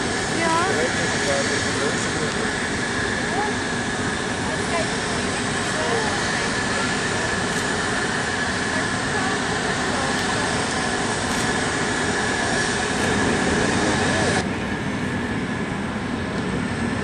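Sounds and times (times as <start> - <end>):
jet engine rushing noise: 0.0 - 17.0
jet turbine whine: 0.0 - 17.0.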